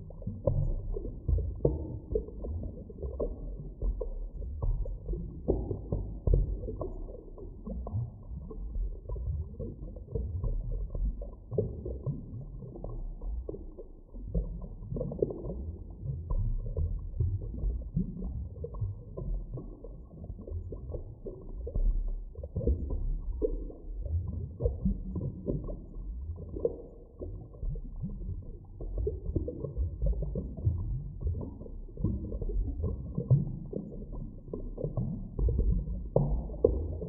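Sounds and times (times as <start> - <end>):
low underwater rumble: 0.0 - 37.0
underwater gurgling: 0.0 - 37.0.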